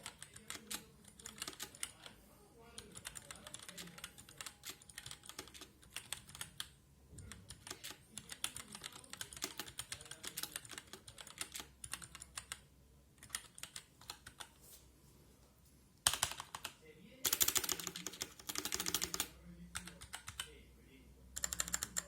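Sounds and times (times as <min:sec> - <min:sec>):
mechanical keyboard typing: 0:00.0 - 0:02.1, 0:02.8 - 0:12.6, 0:13.2 - 0:14.5, 0:16.1 - 0:20.5, 0:21.4 - 0:22.0.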